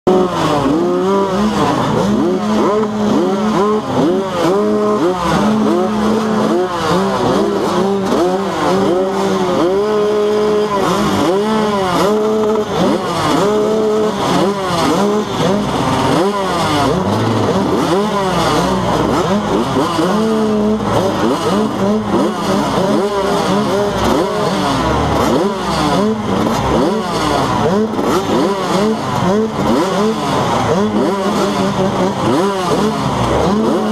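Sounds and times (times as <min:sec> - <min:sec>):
motocross bike engines revving: 0:00.0 - 0:33.9.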